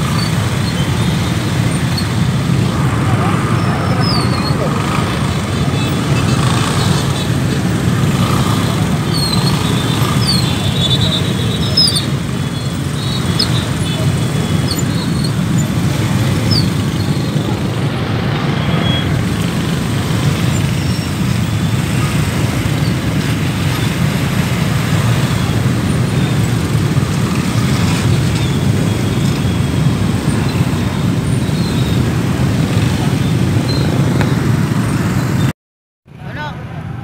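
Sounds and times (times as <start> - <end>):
motorcycle engines rumbling: 0.0 - 35.5, 36.1 - 37.0.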